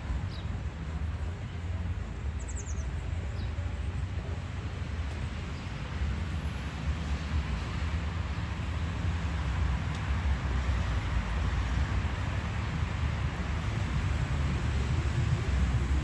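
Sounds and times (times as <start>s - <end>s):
distant road traffic: 0.0s - 16.0s.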